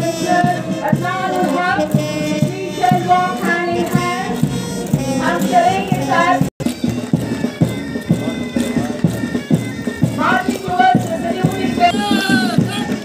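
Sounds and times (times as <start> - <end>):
steady drum beat: 0.0 - 13.0
wavering march melody: 0.0 - 13.0.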